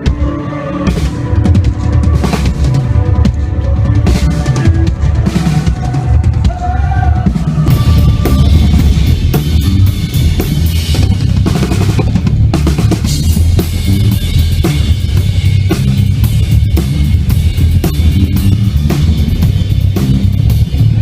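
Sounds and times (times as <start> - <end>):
heavy bass line: 0.0 - 21.0
loud band music: 0.0 - 21.0.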